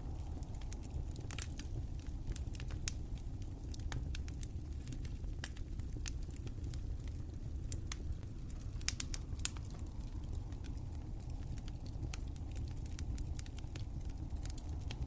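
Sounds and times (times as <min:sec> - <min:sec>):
low rumble of flames: 0:00.0 - 0:15.0
wood fire popping and snapping: 0:00.0 - 0:15.0.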